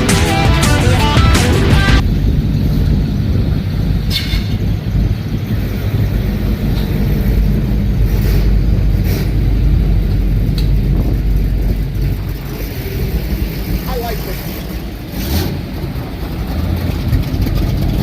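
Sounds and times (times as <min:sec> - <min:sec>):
car engine rumbling: 0:00.0 - 0:18.0.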